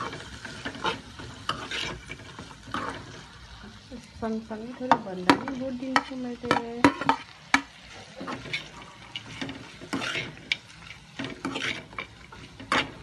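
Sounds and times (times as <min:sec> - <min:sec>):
steel ladle scraping a wok: 0:00.0 - 0:03.5, 0:05.3 - 0:13.0
vegetables sizzling: 0:00.0 - 0:13.0.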